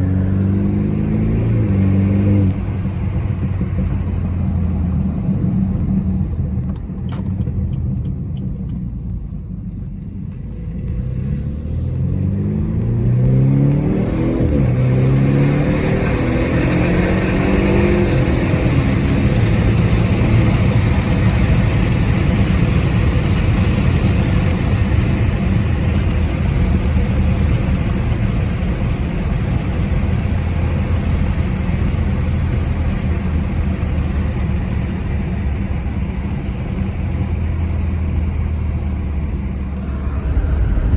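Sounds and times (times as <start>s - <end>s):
car engine accelerating: 0.0s - 40.9s
road noise: 0.0s - 40.9s
exhaust crackles: 0.8s - 9.8s, 10.4s - 40.9s.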